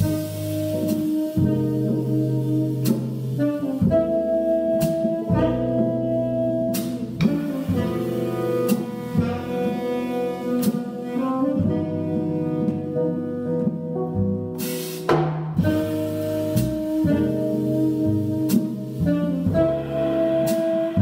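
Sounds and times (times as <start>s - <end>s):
tenor saxophone long notes: 0.0s - 14.2s, 15.6s - 21.0s
double bass notes: 0.0s - 21.0s
drum kit hits: 0.0s - 21.0s.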